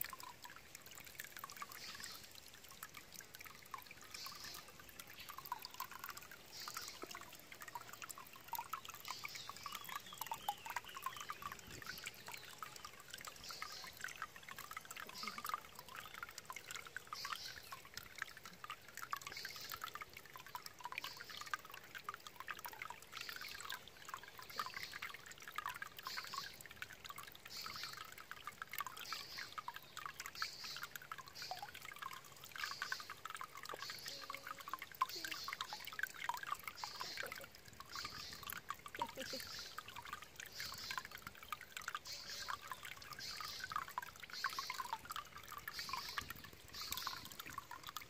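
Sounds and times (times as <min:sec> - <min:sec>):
water trickling and splashing: 0:00.0 - 0:48.0.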